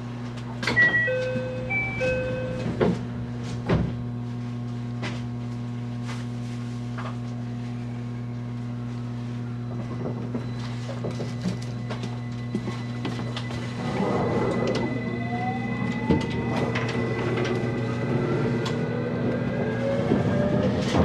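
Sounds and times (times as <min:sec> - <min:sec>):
electric train hum: 0:00.0 - 0:21.0.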